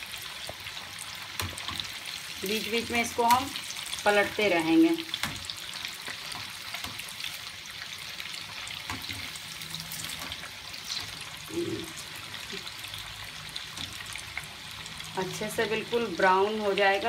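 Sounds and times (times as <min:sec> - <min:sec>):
oil sizzling and bubbling: 0:00.0 - 0:17.0.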